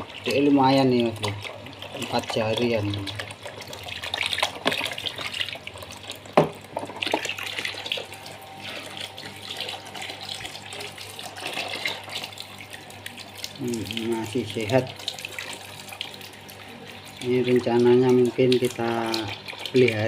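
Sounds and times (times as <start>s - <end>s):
water pouring into plastic tub: 0.0s - 20.0s
fish splashing in water: 1.2s - 17.2s.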